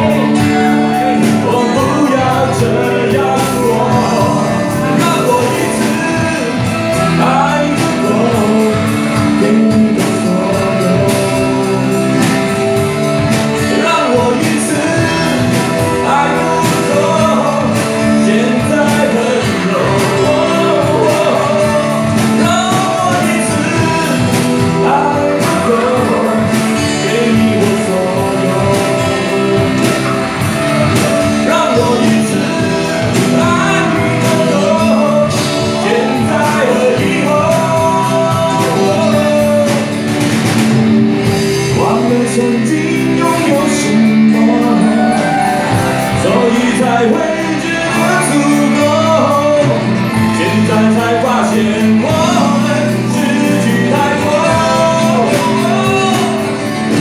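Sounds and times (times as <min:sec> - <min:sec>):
live rock band: 0:00.0 - 0:57.0
man singing: 0:00.0 - 0:57.0.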